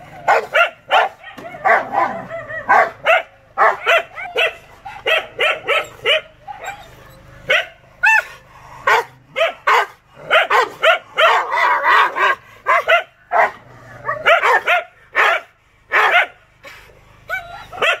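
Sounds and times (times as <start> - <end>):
dog barking aggressively: 0.0 - 18.0
dog yelping: 0.3 - 16.4, 17.3 - 18.0.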